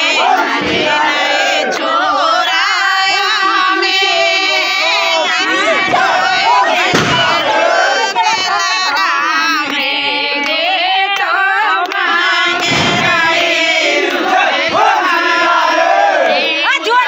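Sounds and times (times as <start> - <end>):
crowd shouting and singing: 0.0 - 17.0.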